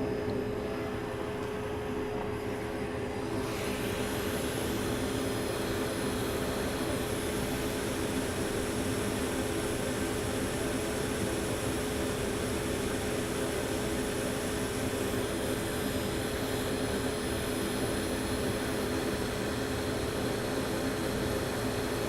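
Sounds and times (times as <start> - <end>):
hot air station blowing: 0.0 - 22.0.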